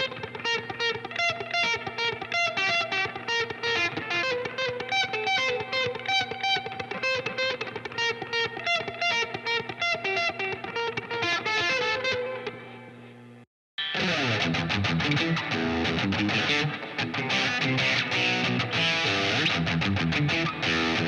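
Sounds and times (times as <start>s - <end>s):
electric guitar melodic line: 0.0s - 12.9s, 13.8s - 21.0s.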